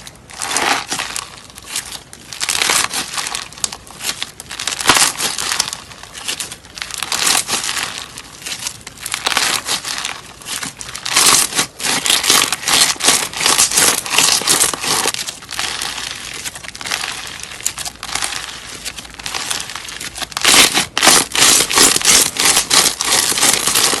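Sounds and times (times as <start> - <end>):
slime crackling squeezed by hand: 0.0 - 24.0.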